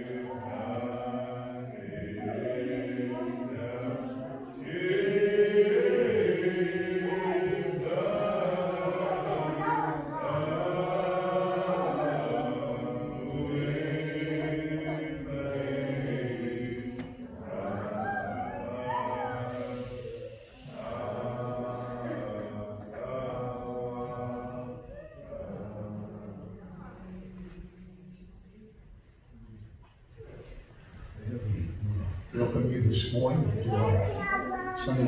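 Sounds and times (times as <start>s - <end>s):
congregation singing a hymn: 0.0s - 28.5s, 30.5s - 35.0s.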